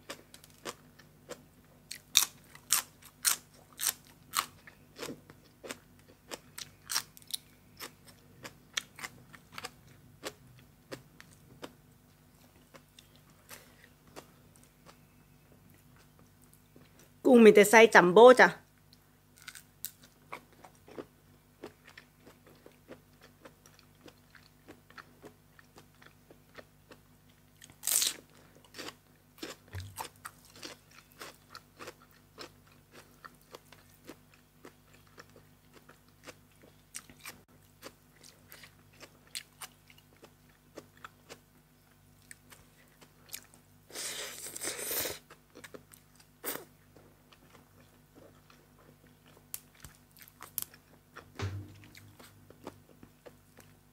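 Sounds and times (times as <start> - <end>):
person chewing crunchy food: 0.0 - 17.2, 19.4 - 53.8.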